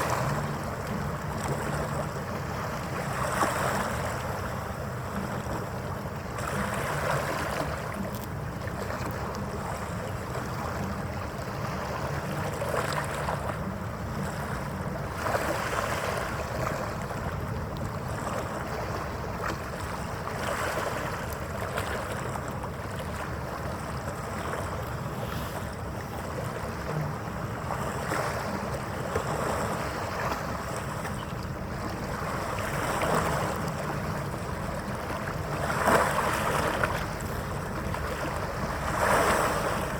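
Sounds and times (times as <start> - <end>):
water lapping: 0.0 - 39.9.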